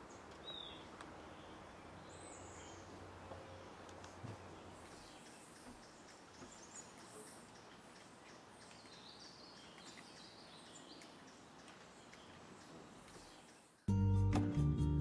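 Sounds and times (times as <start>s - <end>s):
distant bird calls and chirps: 0.0s - 13.9s.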